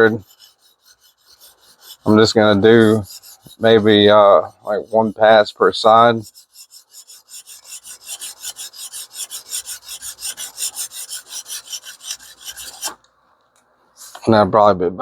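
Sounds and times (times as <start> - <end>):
sharpening stone scraping steel: 0.0 - 13.0, 14.0 - 14.2.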